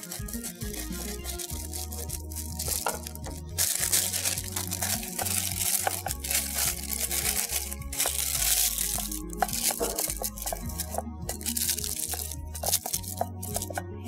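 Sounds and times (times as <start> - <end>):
paper crinkling and rustling: 0.0 - 13.8
soft background music: 0.0 - 14.0.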